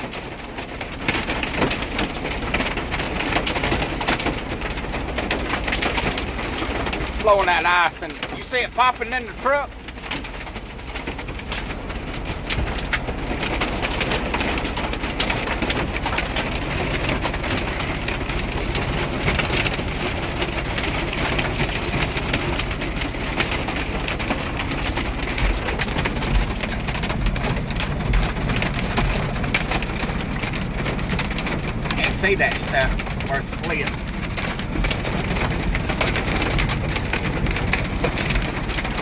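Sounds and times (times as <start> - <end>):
hail pelting a truck: 0.0 - 39.0.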